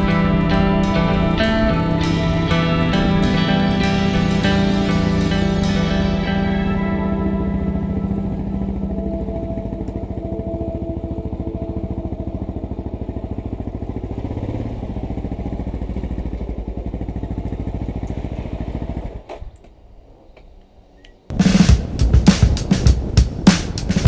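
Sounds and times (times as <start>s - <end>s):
motorcycle engine idling: 0.0s - 19.3s.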